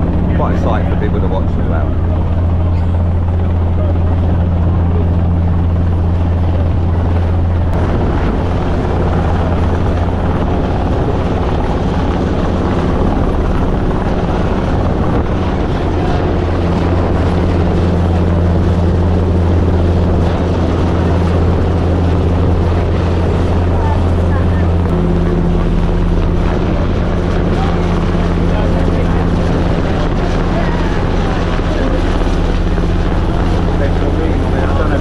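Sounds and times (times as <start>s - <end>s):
helicopter rotors droning: 0.0s - 35.0s.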